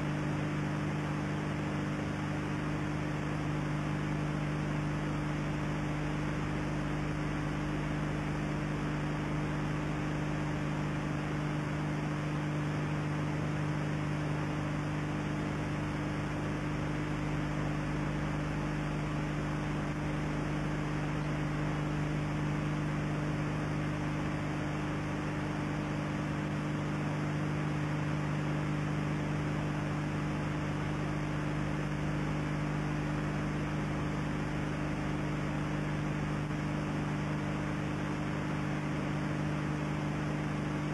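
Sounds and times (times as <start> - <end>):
mains hum: 0.0 - 40.9.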